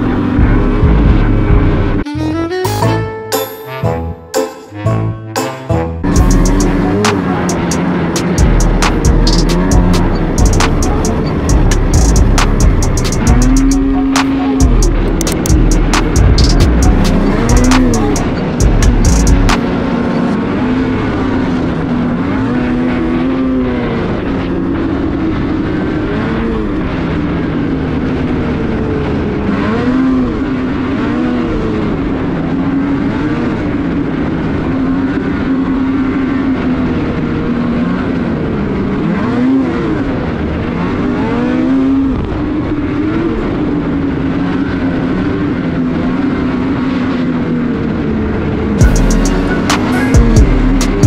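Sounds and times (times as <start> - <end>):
snowmobile engine revving: 4.8 - 51.0.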